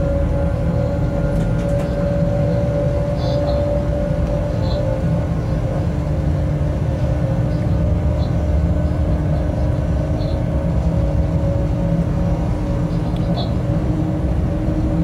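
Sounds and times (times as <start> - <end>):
steady hum: 0.0 - 15.0
train wheels rumbling on rails: 0.0 - 15.0.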